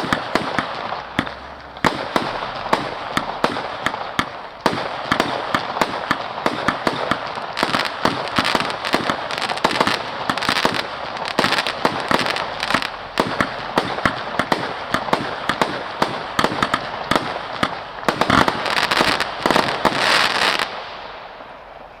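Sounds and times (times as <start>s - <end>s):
fireworks crackle: 0.0s - 22.0s
fireworks shots and bursts: 0.0s - 22.0s.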